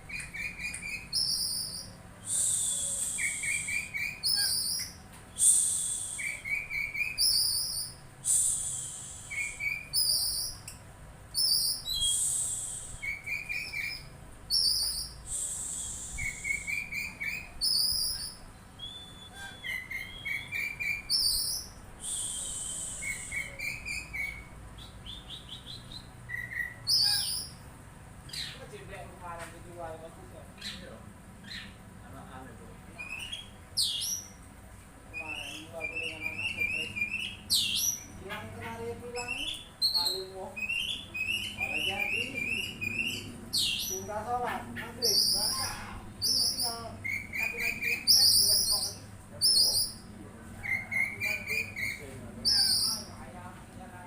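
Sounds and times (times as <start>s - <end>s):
songbird singing: 0.0s - 29.4s, 30.1s - 53.7s.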